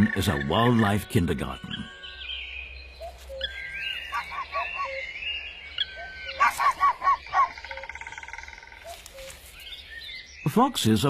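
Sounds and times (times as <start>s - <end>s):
bird trill: 0.0s - 10.6s
songbirds singing: 0.0s - 11.0s
loud bird chirps: 1.6s - 11.0s.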